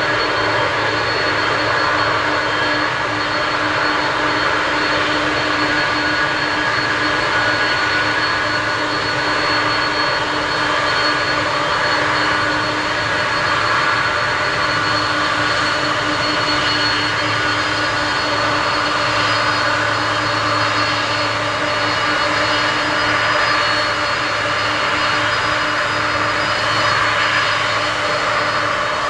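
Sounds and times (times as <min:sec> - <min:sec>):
jet engines taxiing: 0:00.0 - 0:29.0.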